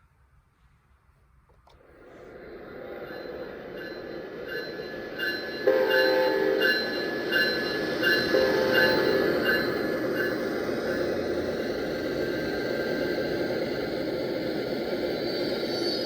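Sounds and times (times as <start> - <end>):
locomotive bell ringing: 2.0 - 16.0.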